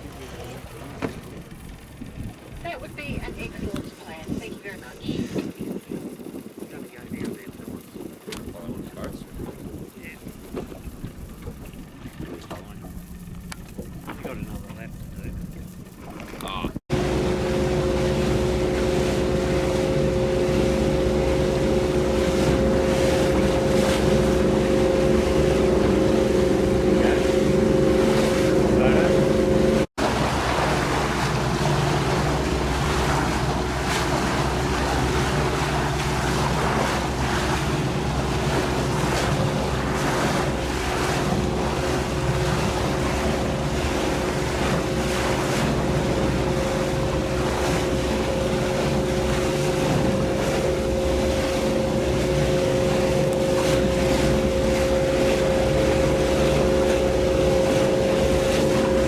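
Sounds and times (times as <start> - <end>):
motorboat engine running: 0.0 - 59.0
wind and water noise: 0.0 - 59.0.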